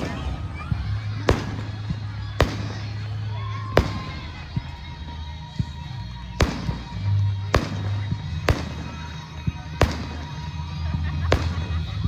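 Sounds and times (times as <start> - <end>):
faint fireworks pops: 0.0 - 12.0
fireworks bangs: 0.0 - 12.0
music with steady bass: 0.0 - 12.0.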